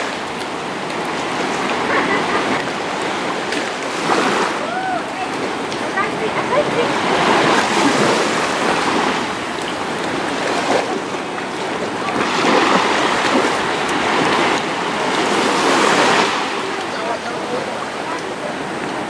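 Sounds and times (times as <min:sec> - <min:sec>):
sea water sloshing and splashing: 0:00.0 - 0:19.0.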